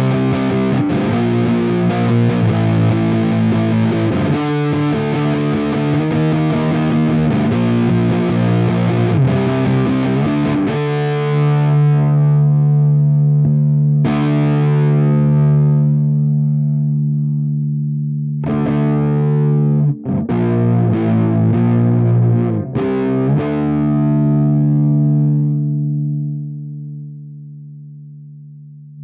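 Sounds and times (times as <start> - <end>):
distorted electric guitar chords: 0.0 - 29.0.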